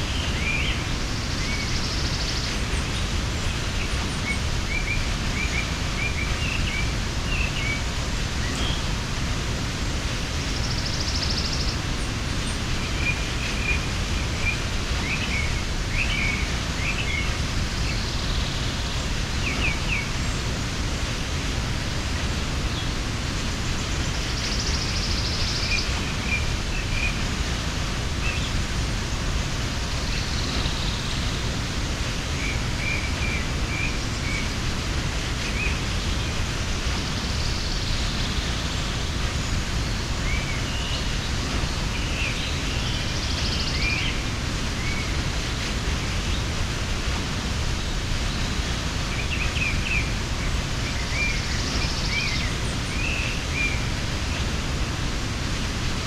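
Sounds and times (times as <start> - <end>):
waterfall rushing: 0.0 - 56.0
small birds chirping: 9.8 - 56.0.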